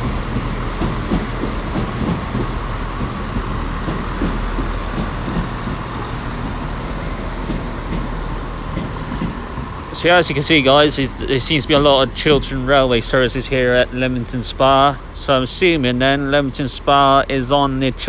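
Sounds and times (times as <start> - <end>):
diesel train idling hum: 0.0 - 18.0.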